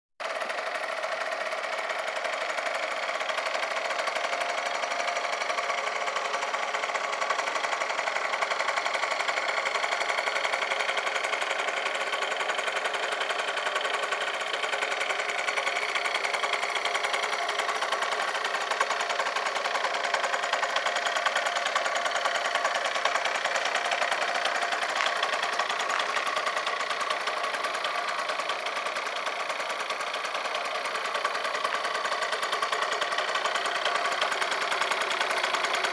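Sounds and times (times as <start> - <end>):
scooter engine idling: 0.2 - 35.9.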